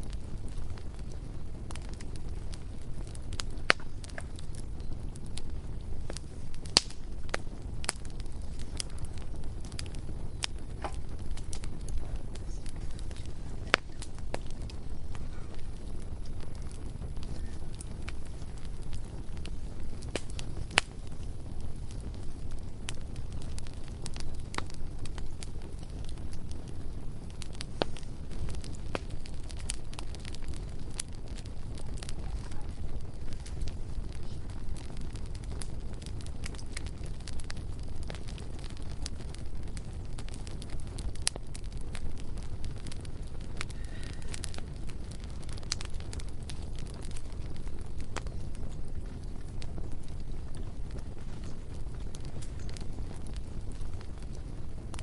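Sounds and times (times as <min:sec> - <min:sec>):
bonfire crackling: 0:00.0 - 0:55.0
low rumble of flames: 0:00.0 - 0:55.0.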